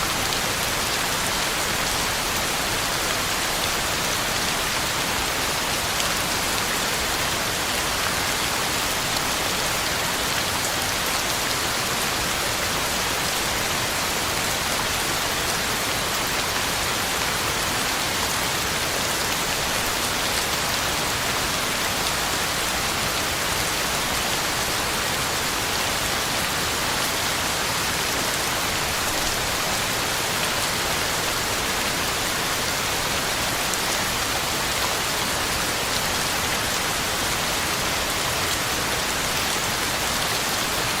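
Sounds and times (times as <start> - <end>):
heavy rain on ground and leaves: 0.0 - 41.0.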